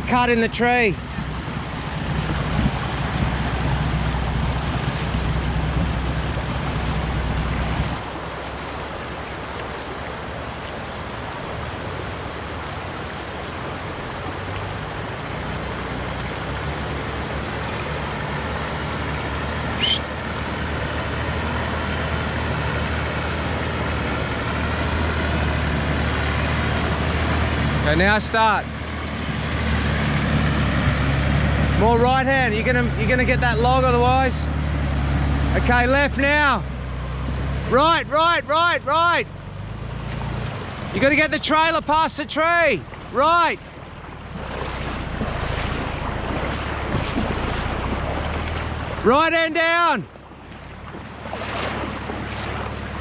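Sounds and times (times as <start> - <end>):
vehicle engine running at low revs: 0.0 - 53.0.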